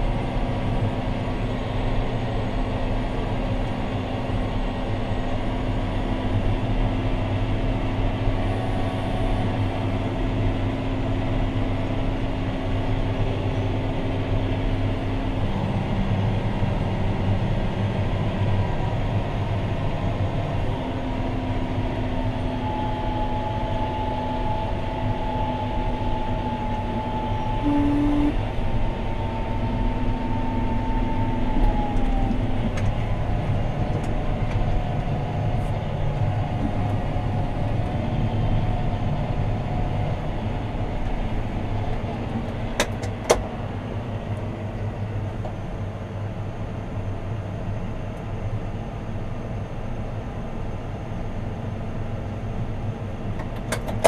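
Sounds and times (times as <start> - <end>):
steady whine: 0.0 - 53.6
tractor diesel engine running: 0.0 - 54.0.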